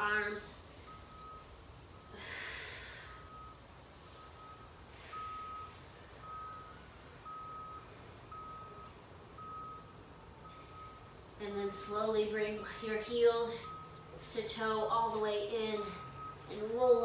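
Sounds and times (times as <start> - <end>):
vehicle reversing alarm beeping: 0.0 - 17.0.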